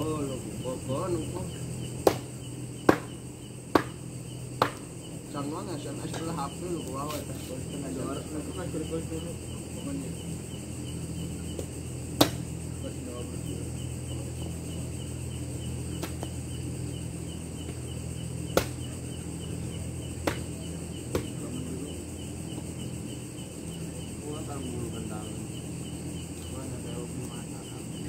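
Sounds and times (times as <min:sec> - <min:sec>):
crickets chirping: 0:00.0 - 0:28.0
low steady hum: 0:00.0 - 0:28.0.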